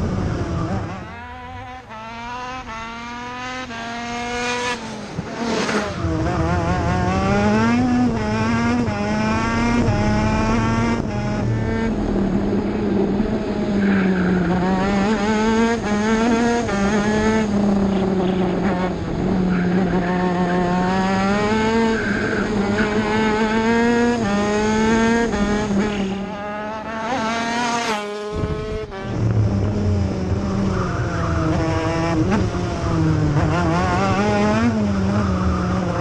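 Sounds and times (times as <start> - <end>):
kart engine revving through gears: 0.0 - 36.0.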